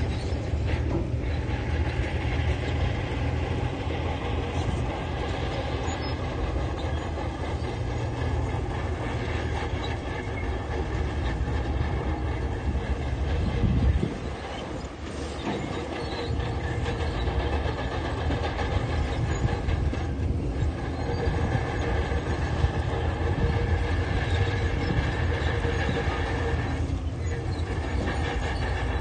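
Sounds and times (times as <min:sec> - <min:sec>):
diesel engine running under load: 0:00.0 - 0:29.0
steel tracks clanking: 0:00.0 - 0:29.0.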